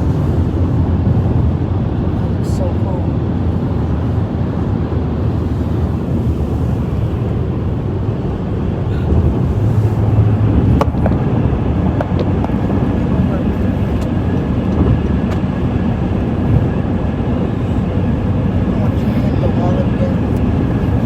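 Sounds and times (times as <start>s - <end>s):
car road and tyre noise: 0.0s - 21.0s.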